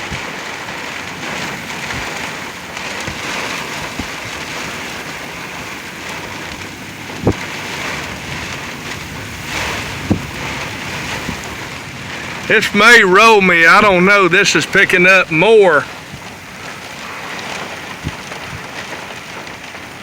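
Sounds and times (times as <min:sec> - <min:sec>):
heavy rain pelting a truck: 0:00.0 - 0:20.0.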